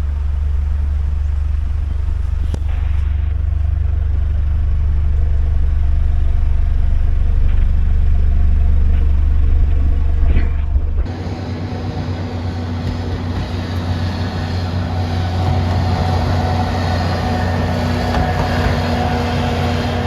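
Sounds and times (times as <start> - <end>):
diesel engine rumbling: 0.0 - 20.0.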